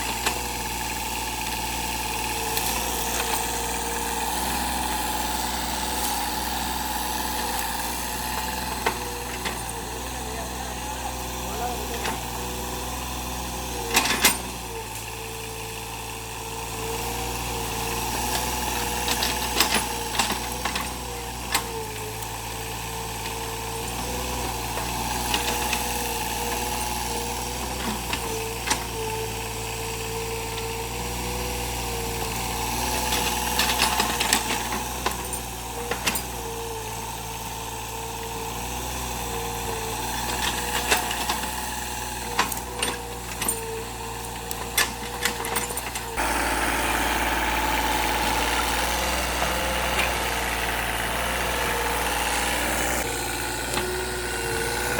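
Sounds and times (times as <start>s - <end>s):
excavator engine running: 0.0s - 54.9s.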